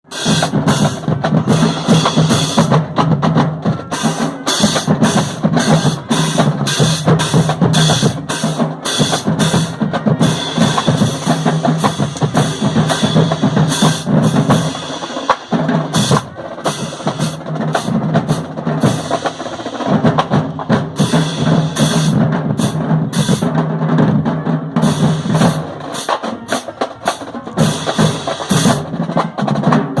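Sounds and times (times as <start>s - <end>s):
marching band drum cadence: 0.0s - 30.0s.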